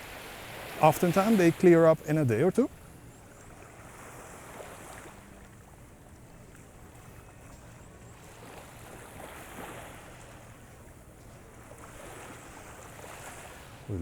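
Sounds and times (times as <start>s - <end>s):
gentle waves washing onto beach: 0.0s - 14.0s.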